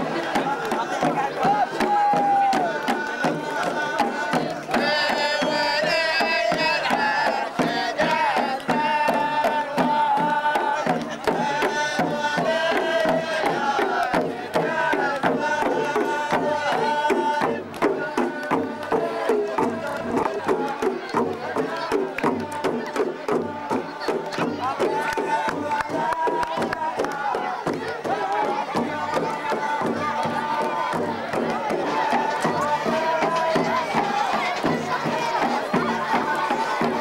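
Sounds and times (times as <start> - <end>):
drums beating: 0.0 - 37.0
men chanting in unison: 0.0 - 37.0.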